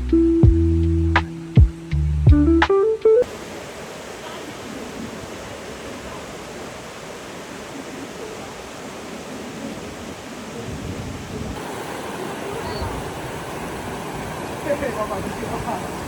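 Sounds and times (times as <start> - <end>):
steady rushing outdoor hiss: 0.0 - 16.0.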